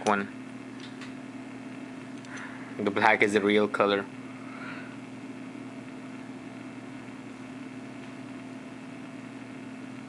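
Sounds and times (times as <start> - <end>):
background hum with faint hiss: 0.0 - 10.0.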